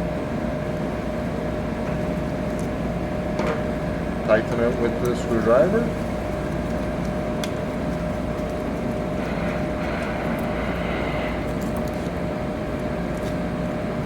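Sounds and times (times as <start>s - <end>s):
mechanical hum with whine: 0.0s - 14.0s.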